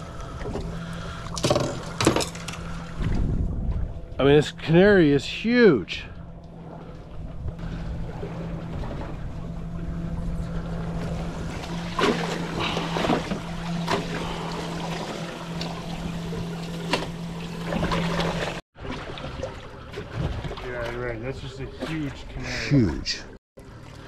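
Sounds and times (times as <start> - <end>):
steady low hum: 0.0 - 24.0
water splashing and sloshing: 0.0 - 24.0.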